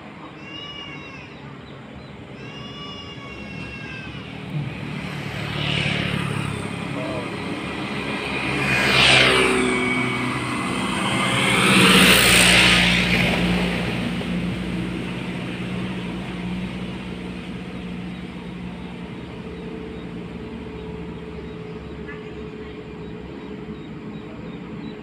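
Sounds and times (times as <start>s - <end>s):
pickup truck driving past: 3.9s - 24.7s.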